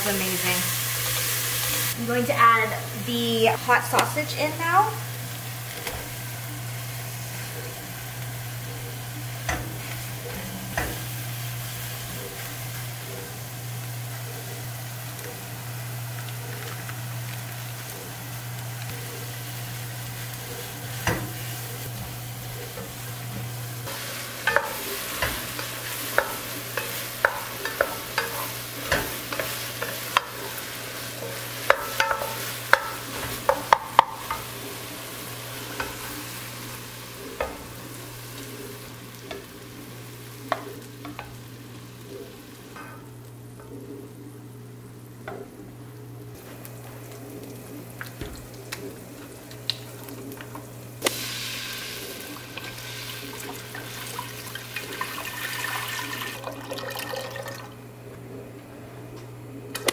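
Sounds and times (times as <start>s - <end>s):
sausage sizzling in a pot: 0.0s - 45.2s, 46.2s - 57.9s.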